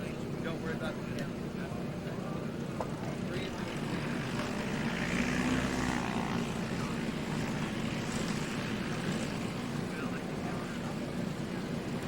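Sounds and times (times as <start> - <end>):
propeller airplane engine running: 0.0 - 12.0.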